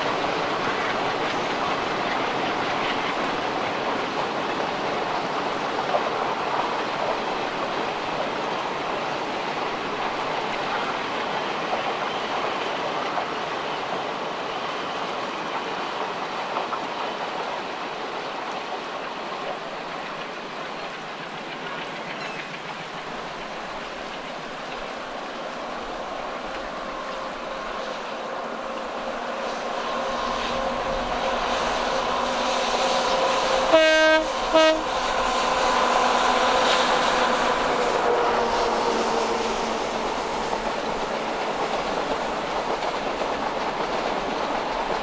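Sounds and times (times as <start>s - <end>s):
train wheels on rail: 0.0s - 45.0s.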